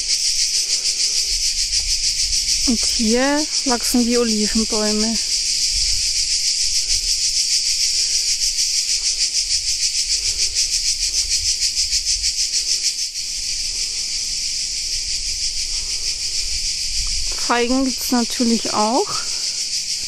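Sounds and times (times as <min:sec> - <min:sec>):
cicadas shrilling: 0:00.0 - 0:20.0.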